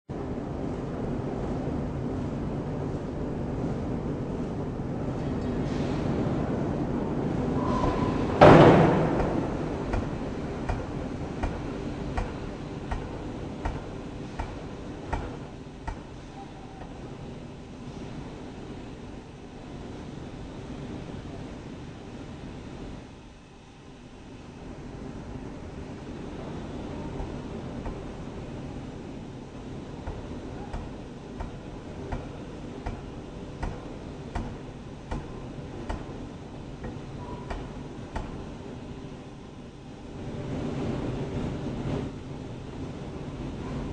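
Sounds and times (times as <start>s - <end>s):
steady machine running noise: 0.1s - 43.9s.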